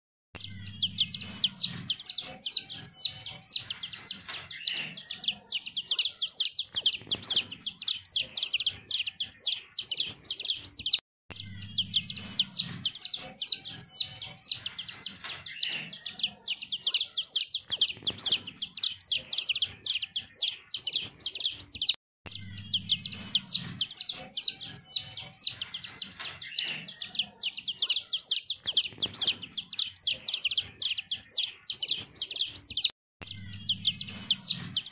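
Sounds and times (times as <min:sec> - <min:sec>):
baby chicks peeping: 0:00.4 - 0:34.9.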